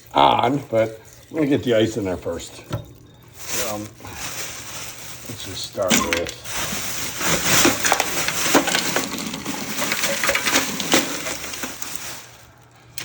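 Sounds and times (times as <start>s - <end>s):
ice crunching in sink drain: 0.0s - 13.0s.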